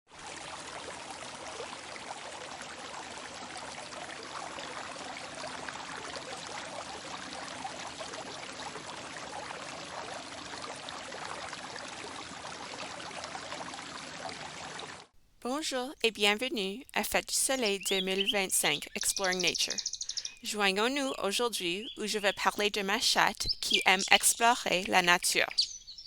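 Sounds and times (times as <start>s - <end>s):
stream babbling: 0.2s - 26.0s.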